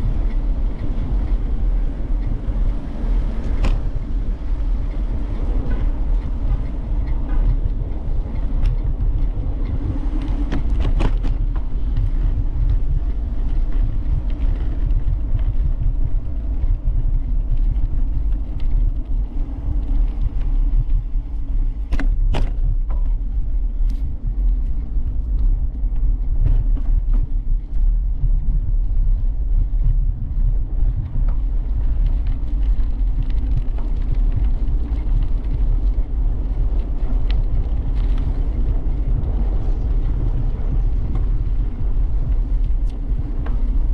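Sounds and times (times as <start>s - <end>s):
bicycle tyre noise: 0.0s - 43.9s
wind buffeting microphone: 0.0s - 43.9s.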